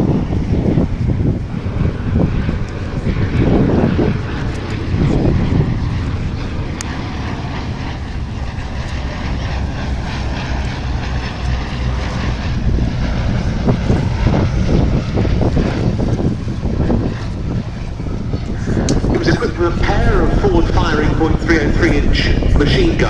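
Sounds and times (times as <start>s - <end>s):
gusty wind noise: 0.0s - 23.0s
propeller plane engines droning: 0.0s - 23.0s.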